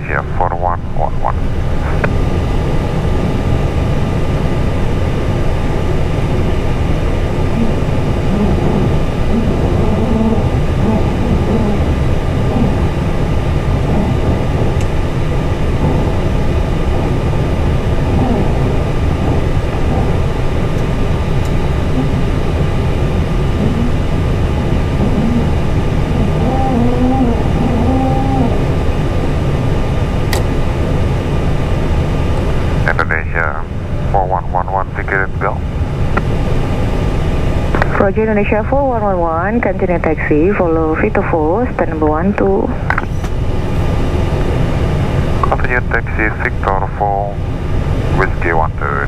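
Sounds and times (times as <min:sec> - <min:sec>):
aircraft engines idling: 0:00.0 - 0:49.0
air-conditioning fan noise: 0:01.3 - 0:34.7, 0:35.5 - 0:49.0.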